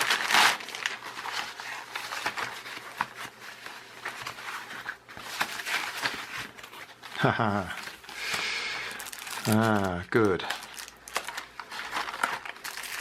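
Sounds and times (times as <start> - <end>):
packing padding rustling: 0.0 - 13.0.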